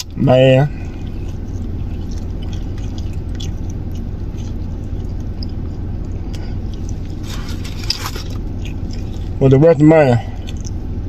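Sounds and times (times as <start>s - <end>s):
chewing crunchy food: 0.0s - 11.0s
steady low hum: 0.0s - 11.0s.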